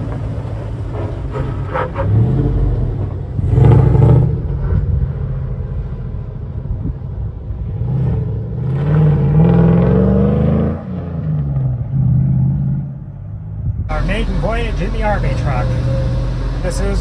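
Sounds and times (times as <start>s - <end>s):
truck engine accelerating: 0.0s - 12.6s, 13.8s - 17.0s.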